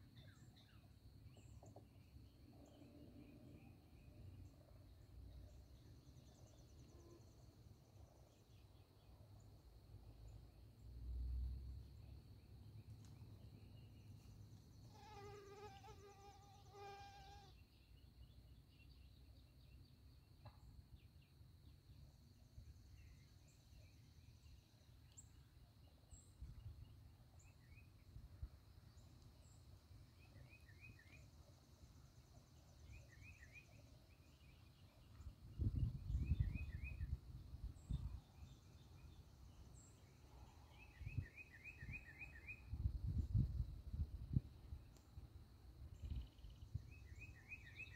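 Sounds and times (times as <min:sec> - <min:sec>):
insects humming: 0:00.0 - 0:47.9.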